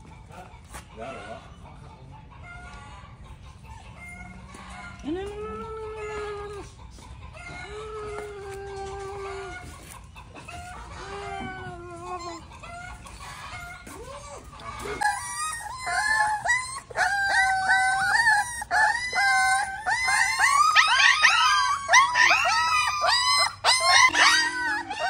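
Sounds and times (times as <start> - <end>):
roosters crowing: 3.9 - 25.0.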